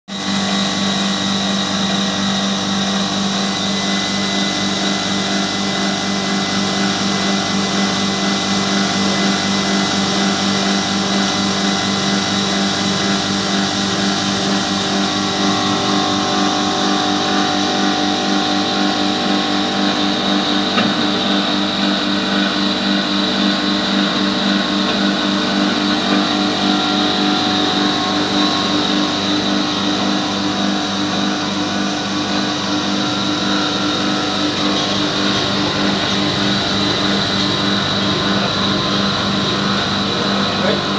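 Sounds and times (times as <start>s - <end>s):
grinding mill running: 0.1s - 40.9s.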